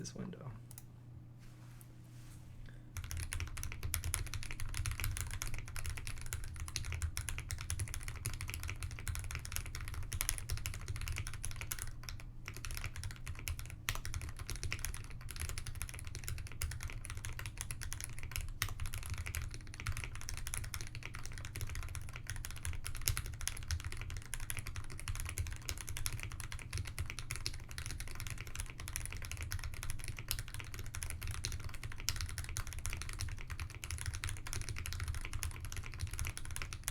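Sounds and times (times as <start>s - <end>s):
fast typing on mechanical keyboard: 3.0s - 36.9s.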